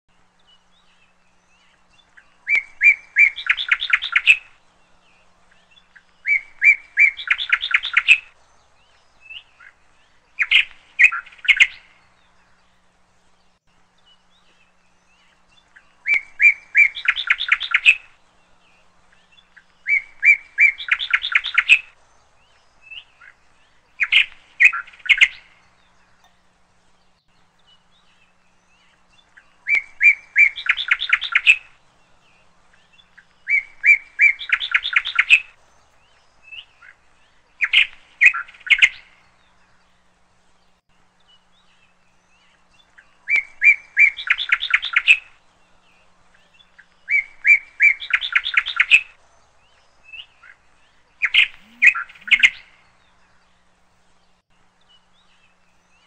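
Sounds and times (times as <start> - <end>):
songbird singing trills: 0.1 - 56.0.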